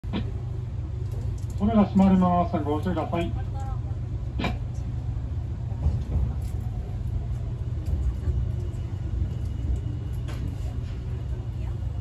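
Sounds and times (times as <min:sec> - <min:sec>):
train interior low rumble: 0:00.0 - 0:12.0.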